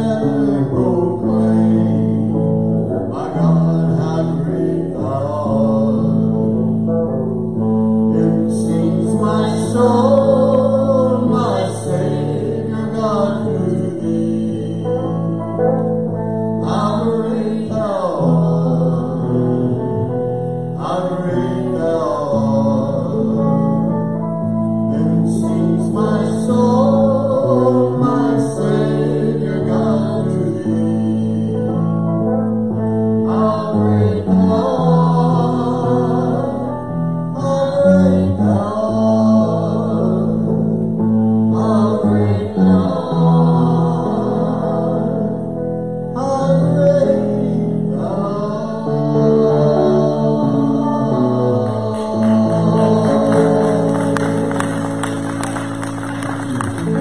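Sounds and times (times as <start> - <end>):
person singing: 0.0 - 6.8, 7.6 - 15.6, 16.6 - 32.2, 33.1 - 57.0
electric and acoustic guitars: 0.0 - 57.0
held bass notes: 0.0 - 57.0.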